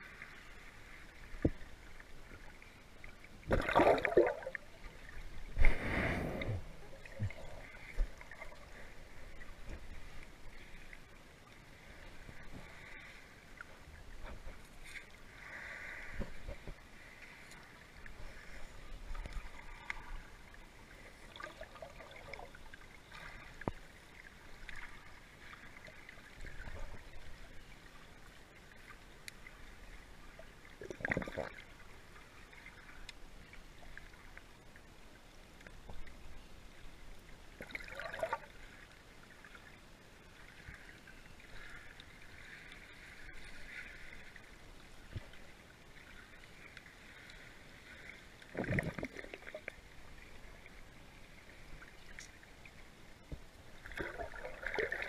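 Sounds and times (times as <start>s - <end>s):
water swishing: 0.0s - 34.9s, 37.2s - 55.0s.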